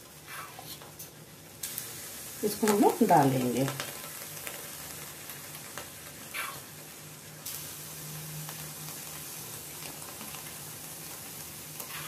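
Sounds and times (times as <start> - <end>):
batter sizzling in hot mould: 0.0 - 12.0.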